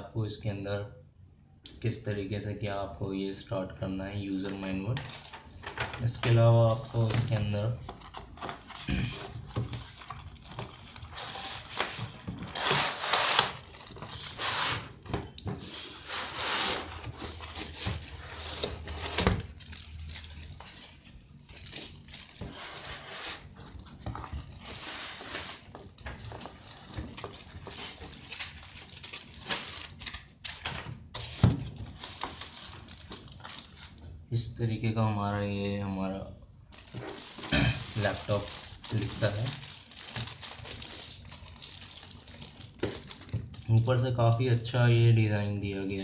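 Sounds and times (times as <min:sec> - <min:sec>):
plastic and foam packing crinkling: 0:05.0 - 0:34.2, 0:36.7 - 0:46.0.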